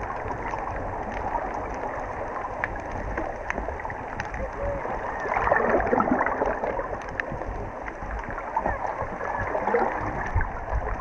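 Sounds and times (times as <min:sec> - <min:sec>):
underwater rushing and gurgling: 0:00.0 - 0:11.0.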